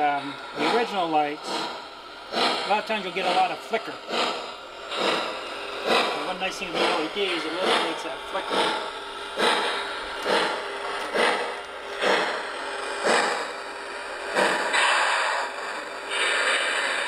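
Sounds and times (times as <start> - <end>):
model steam locomotive chuffing: 0.0 - 17.0.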